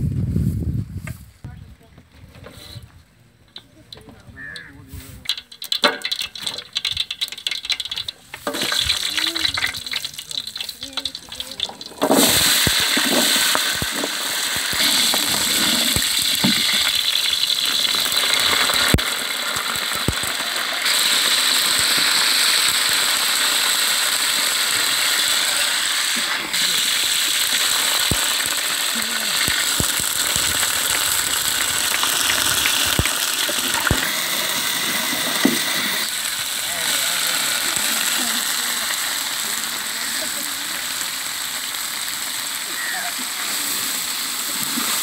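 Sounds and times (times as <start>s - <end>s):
food sizzling in hot oil: 4.4s - 45.0s.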